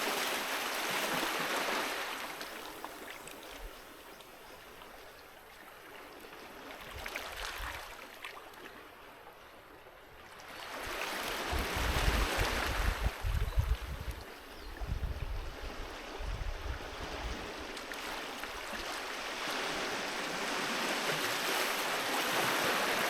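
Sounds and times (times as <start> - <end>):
sea waves washing on a beach: 0.0 - 9.2, 10.1 - 23.0.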